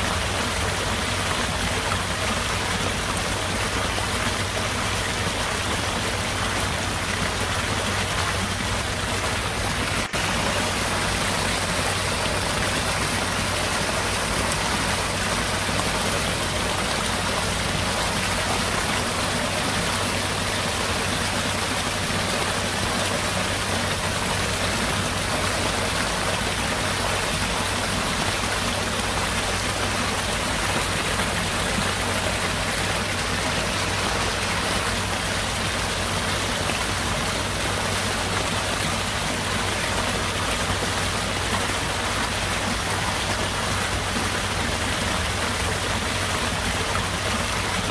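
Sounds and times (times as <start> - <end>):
heavy rain on wet ground: 0.0 - 47.9.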